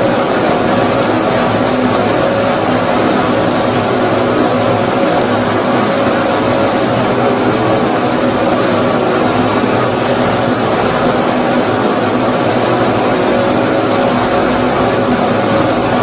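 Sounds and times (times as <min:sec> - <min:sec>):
white noise rushing: 0:00.0 - 0:16.0.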